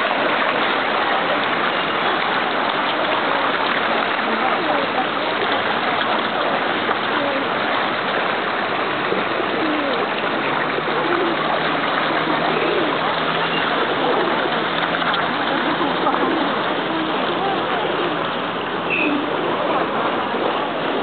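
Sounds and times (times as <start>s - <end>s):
fish thrashing and splashing: 0.0s - 21.0s.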